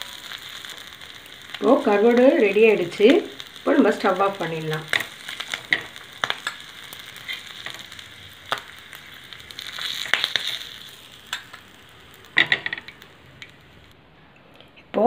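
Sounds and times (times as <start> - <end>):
oil sizzling on a griddle: 0.0 - 14.0.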